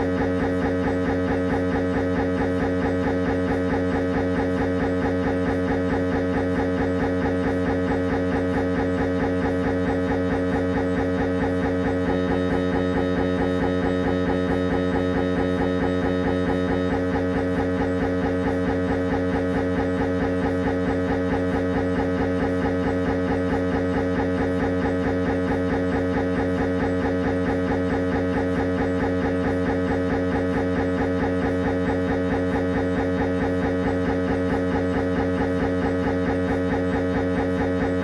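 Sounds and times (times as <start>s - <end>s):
mri scanner buzzing pulses: 0.0s - 38.0s.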